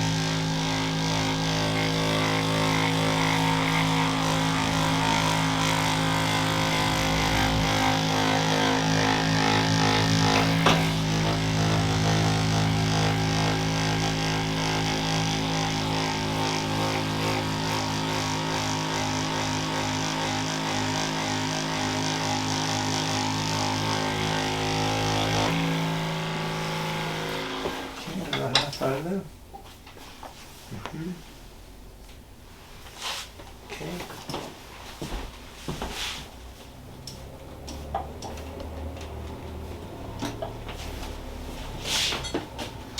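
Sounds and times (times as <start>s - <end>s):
electric massager motor drone: 0.0s - 28.2s, 36.5s - 42.9s.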